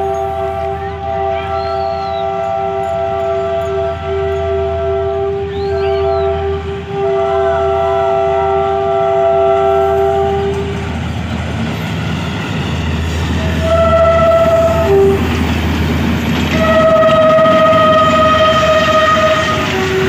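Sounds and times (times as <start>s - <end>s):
locomotive horn blasts: 0.0s - 10.8s, 13.4s - 15.3s, 16.5s - 20.0s.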